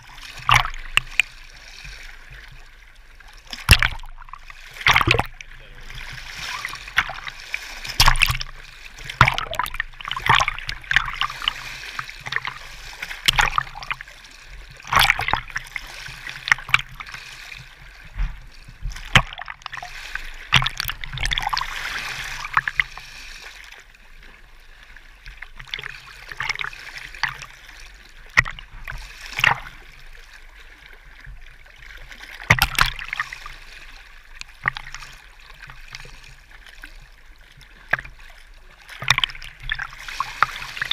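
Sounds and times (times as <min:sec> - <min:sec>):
small waves lapping and splashing: 0:00.0 - 0:40.9
water slapping and gurgling: 0:00.0 - 0:40.9.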